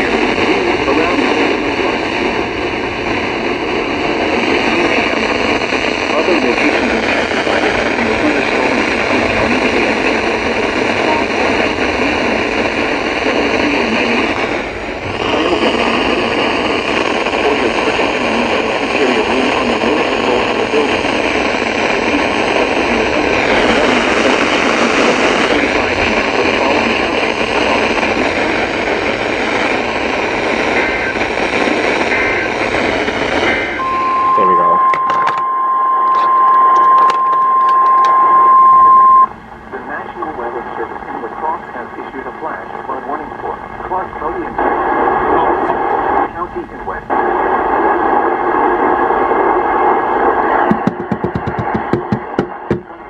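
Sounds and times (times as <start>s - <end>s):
faint data bursts: 0.0s - 53.0s
radio static hiss: 0.0s - 53.0s.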